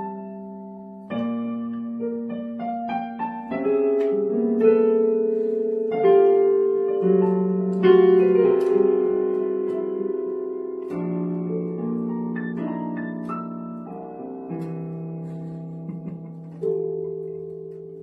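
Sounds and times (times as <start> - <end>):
electronic keyboard piano melody: 0.0 - 18.0.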